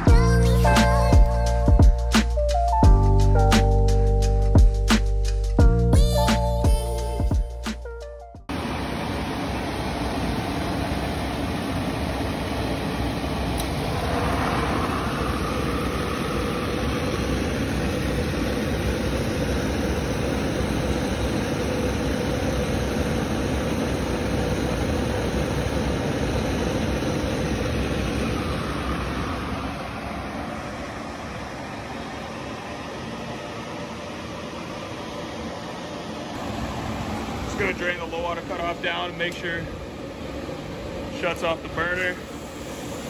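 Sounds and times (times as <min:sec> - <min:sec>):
oil burner blower and flame roar: 0:08.5 - 0:43.0.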